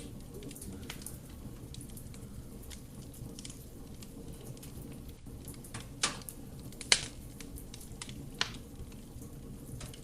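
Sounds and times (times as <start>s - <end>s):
burning wood crackles: 0.0s - 10.0s
low rush of flame: 0.0s - 10.0s.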